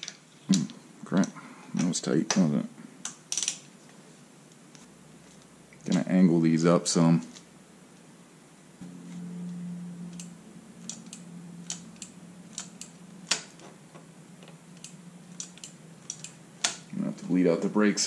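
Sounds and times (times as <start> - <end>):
steady low hum: 0.4 - 18.0.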